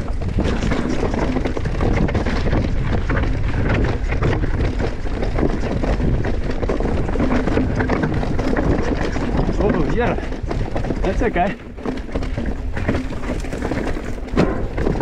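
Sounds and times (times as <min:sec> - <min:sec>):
bike tyres clattering over rocks: 0:00.0 - 0:15.0
wind buffeting microphone: 0:00.0 - 0:15.0.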